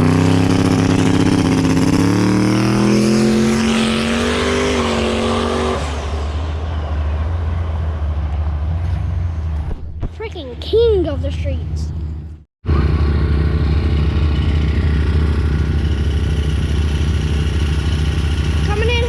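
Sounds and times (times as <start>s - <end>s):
racing car engine at full throttle: 0.0s - 9.7s, 12.0s - 19.0s.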